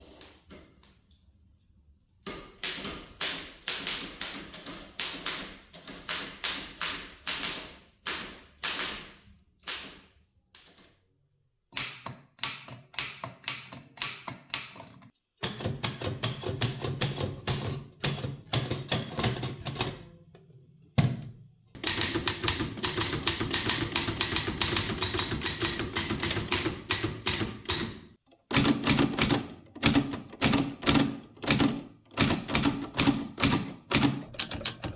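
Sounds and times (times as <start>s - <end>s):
typewriter typing: 2.6s - 10.9s, 11.8s - 20.0s, 21.8s - 34.9s.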